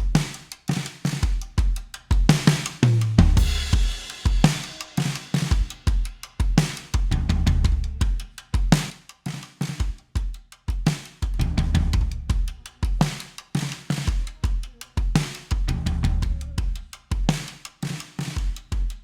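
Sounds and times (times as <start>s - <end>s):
acoustic drum kit groove: 0.0s - 19.0s.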